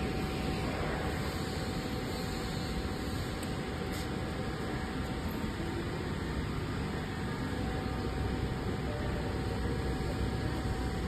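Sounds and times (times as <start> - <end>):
grinding mill running with whine: 0.0 - 11.0.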